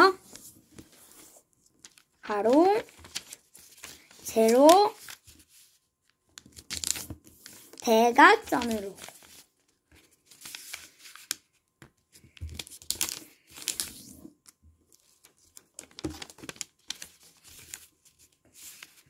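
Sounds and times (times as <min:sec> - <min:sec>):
paper crinkling and rustling: 0:00.2 - 0:19.0.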